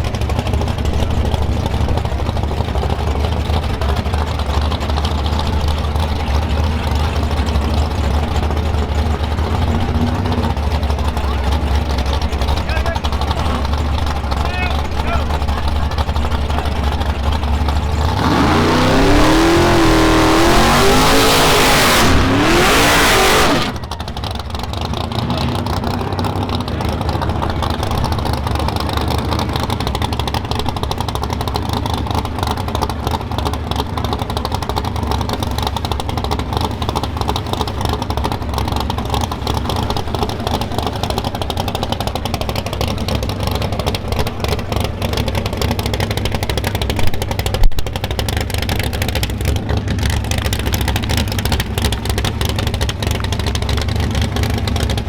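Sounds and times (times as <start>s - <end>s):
engine rumble: 0.0s - 55.0s
racing car engine at full throttle: 0.0s - 55.0s.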